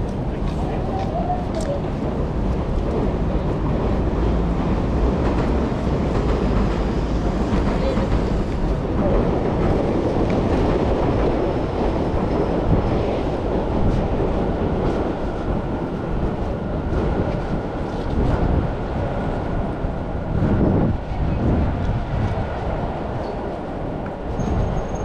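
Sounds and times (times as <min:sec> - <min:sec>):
city street rumble: 0:00.0 - 0:25.0.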